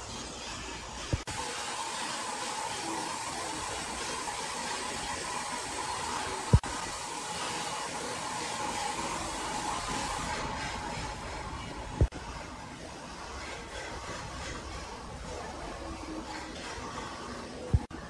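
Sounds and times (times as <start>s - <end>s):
rushing machine noise: 0.0s - 18.0s.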